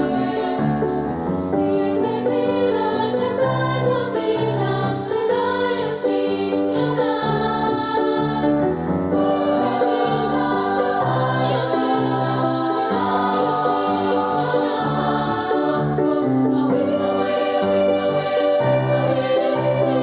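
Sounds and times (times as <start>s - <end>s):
many voices singing together: 0.0s - 20.0s.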